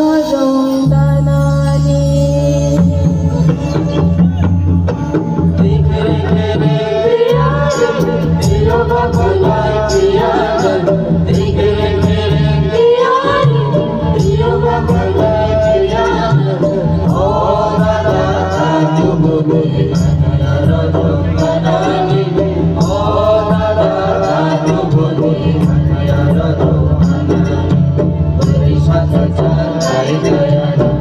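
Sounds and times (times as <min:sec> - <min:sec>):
heavy bass line: 0:00.9 - 0:31.0
steady drum beat: 0:02.7 - 0:31.0.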